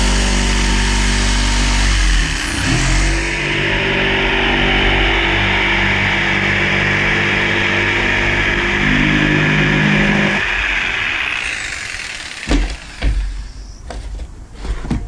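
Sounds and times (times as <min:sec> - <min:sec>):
jigsaw cutting plywood: 0:00.0 - 0:13.5.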